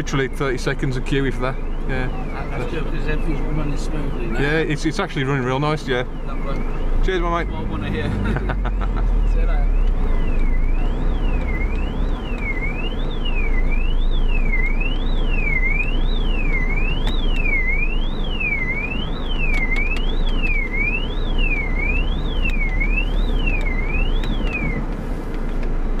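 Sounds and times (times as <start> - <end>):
electronic alarm siren wailing: 0.0 - 24.9.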